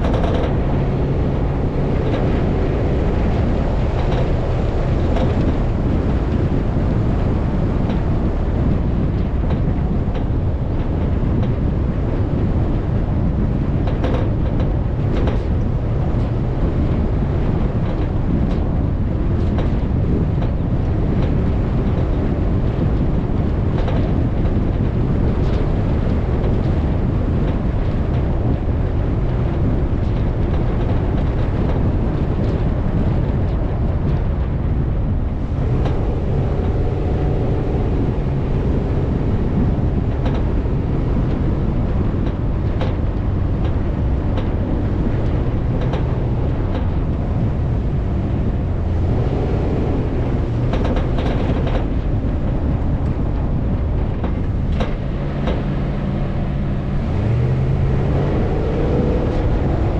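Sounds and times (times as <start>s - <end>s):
off-road vehicle engine running: 0.0s - 59.9s
wind buffeting microphone: 0.0s - 59.9s.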